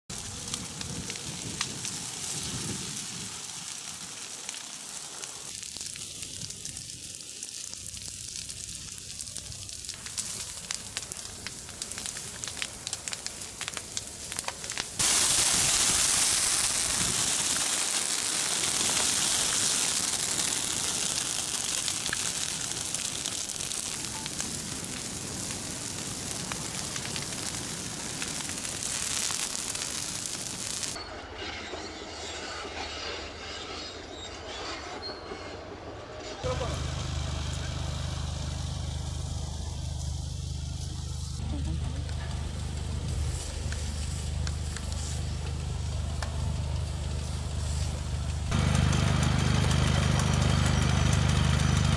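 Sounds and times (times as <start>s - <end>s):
fire crackling and popping: 0.1s - 31.0s, 36.4s - 51.9s
loud steady hiss: 0.1s - 31.0s, 36.4s - 51.8s.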